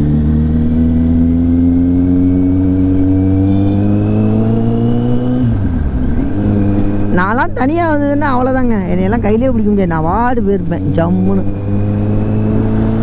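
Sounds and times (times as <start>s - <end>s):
motorcycle engine pulling: 0.0s - 13.0s.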